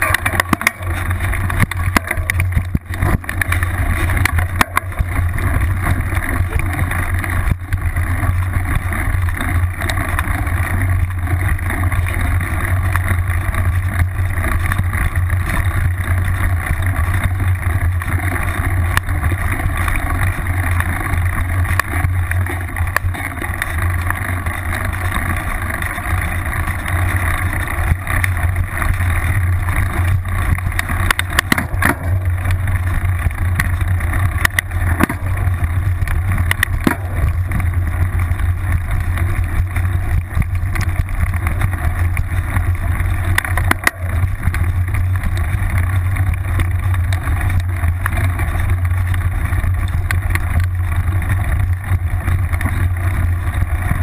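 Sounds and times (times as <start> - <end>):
bike knocks and rattles: 0.0 - 54.0
bike tyres rolling rumble: 0.0 - 54.0.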